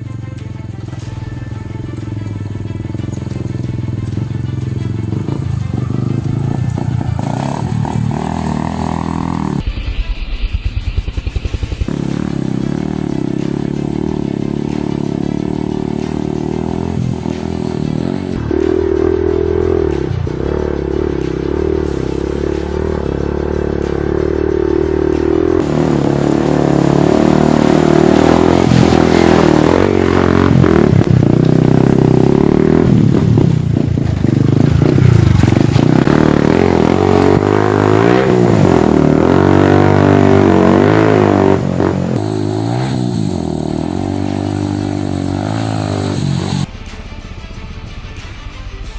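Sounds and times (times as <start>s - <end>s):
motorcycle engine revving: 0.0s - 47.8s.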